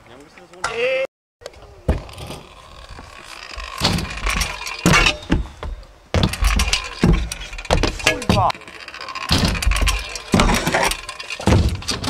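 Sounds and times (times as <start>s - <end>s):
scooter wheels rolling on concrete: 1.4s - 12.0s
scooter clacking and knocking: 1.9s - 12.0s.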